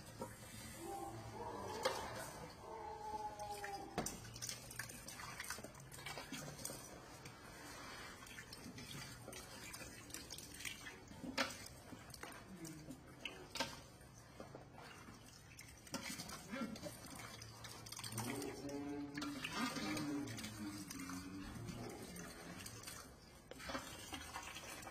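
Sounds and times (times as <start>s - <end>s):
pieces sloshing in pot: 0.0s - 24.9s
tap water stream: 0.0s - 24.9s.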